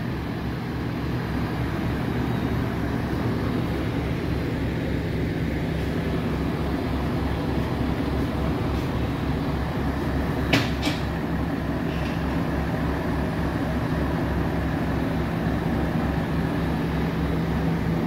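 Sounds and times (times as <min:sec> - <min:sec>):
machinery droning: 0:00.0 - 0:18.0.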